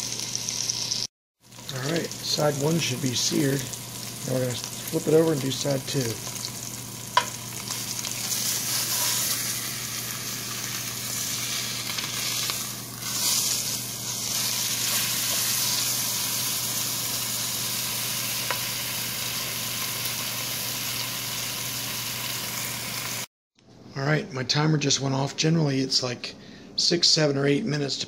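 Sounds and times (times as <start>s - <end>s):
meat sizzling in oil: 0.0s - 23.3s.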